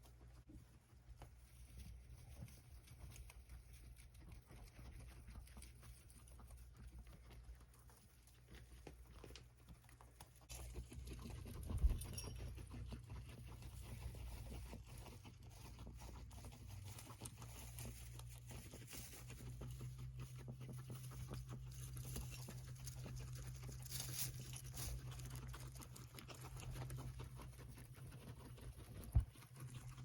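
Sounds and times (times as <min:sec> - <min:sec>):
guinea pigs nibbling and rustling: 0:00.0 - 0:30.0.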